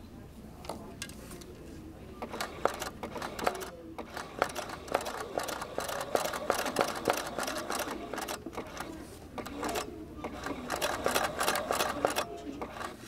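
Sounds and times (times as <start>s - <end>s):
sewing machine clicking: 2.2s - 13.0s.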